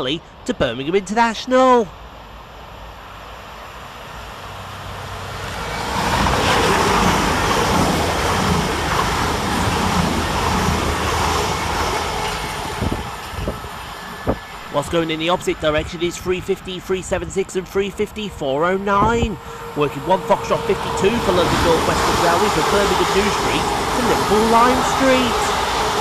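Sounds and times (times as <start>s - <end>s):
diesel trains passing fast: 0.0s - 26.0s
train wheels on rail: 3.8s - 26.0s.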